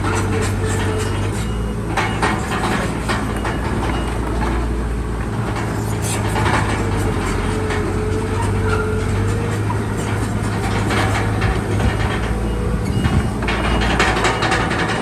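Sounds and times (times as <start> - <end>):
bulldozer diesel engine: 0.0 - 15.0
steel tracks clanking: 0.0 - 15.0.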